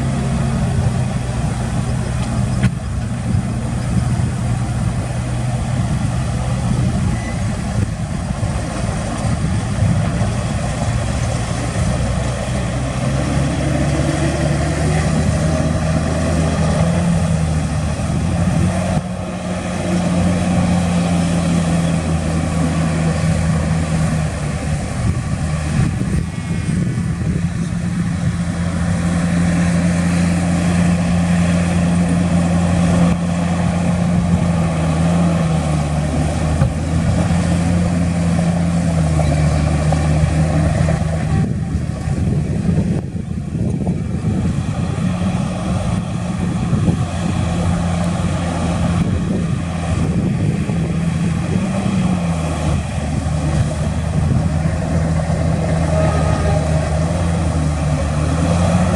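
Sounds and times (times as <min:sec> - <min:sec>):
heavy diesel engine under load: 0:00.0 - 0:58.9.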